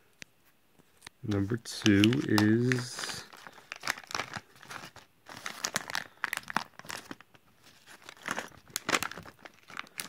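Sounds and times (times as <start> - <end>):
plastic package crinkling and tearing: 1.3 - 10.0.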